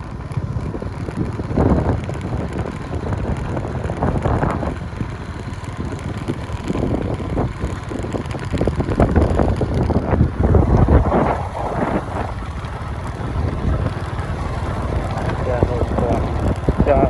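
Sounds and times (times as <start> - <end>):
boat on water: 0.0 - 17.0
wind buffeting microphone: 0.0 - 17.0.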